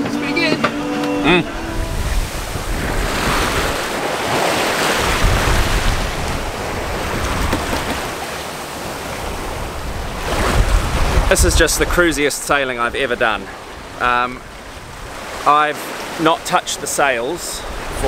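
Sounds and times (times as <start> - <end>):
ocean waves rushing and breaking: 0.0 - 18.0
wind gusting across microphone: 1.4 - 15.5, 17.4 - 18.0.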